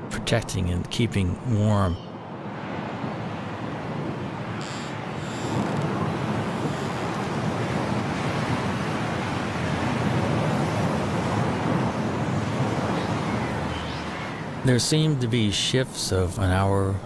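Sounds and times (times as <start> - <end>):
storm wind rushing: 2.1 - 16.1.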